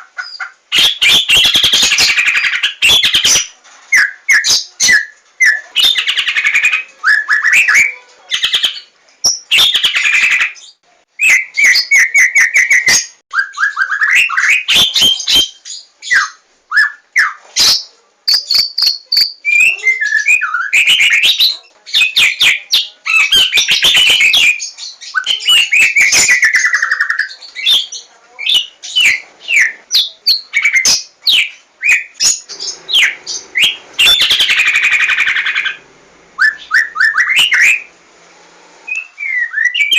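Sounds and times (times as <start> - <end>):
songbird singing varied song: 0.2 - 35.8.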